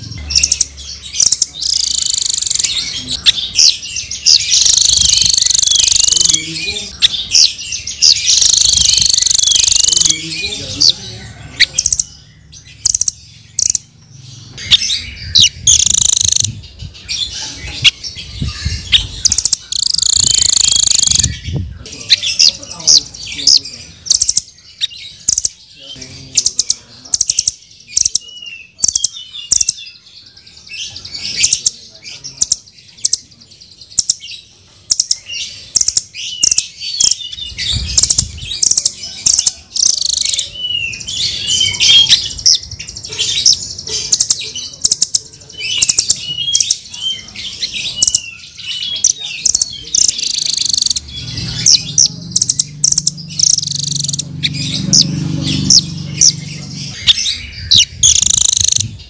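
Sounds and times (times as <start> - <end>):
nuthatch calling: 0.0 - 33.3, 33.9 - 59.0.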